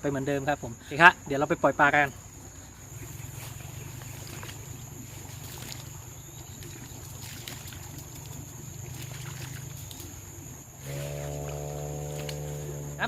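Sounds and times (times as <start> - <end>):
high insect drone: 0.0 - 13.0
water splashing and trickling: 0.7 - 13.0.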